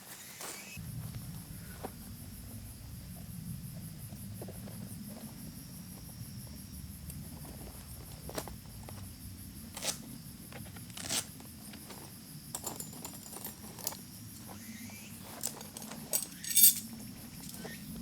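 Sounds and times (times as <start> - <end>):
high drone of insects: 0.0 - 18.0.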